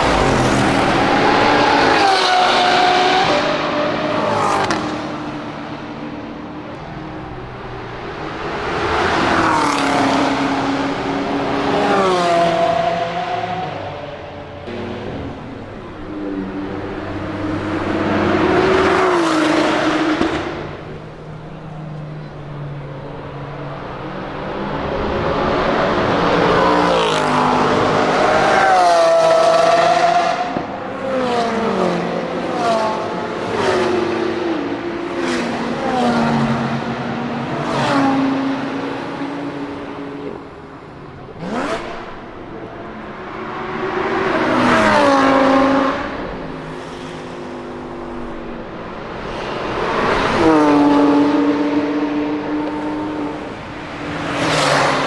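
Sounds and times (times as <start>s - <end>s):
cars driving past at full throttle: 0.0s - 55.0s.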